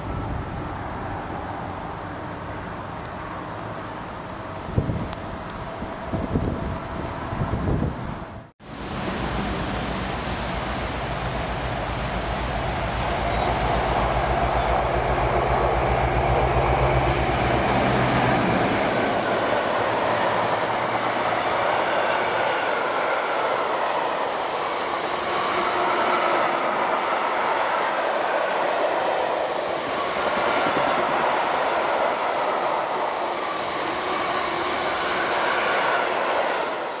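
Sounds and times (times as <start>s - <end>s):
diesel locomotive engine: 0.0s - 37.0s
wheels rumbling on rails: 0.0s - 37.0s.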